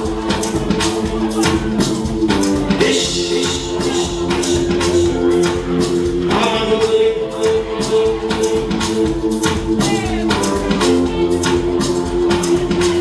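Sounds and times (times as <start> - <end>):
loud music over sound system: 0.0 - 13.0
person singing: 0.0 - 13.0.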